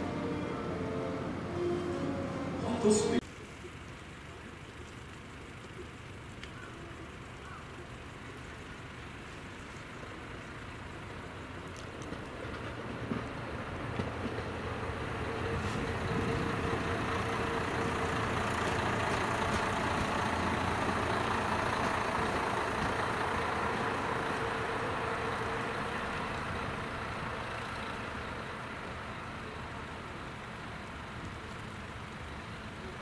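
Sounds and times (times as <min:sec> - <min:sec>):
train engine and wheels: 0:00.0 - 0:03.3, 0:06.0 - 0:33.0.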